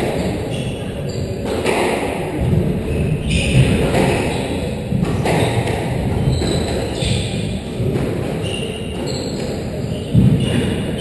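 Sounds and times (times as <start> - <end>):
shoes squeaking on wooden floor: 0.0 - 1.8, 2.9 - 11.0
squash ball hitting rackets and walls: 0.0 - 11.0.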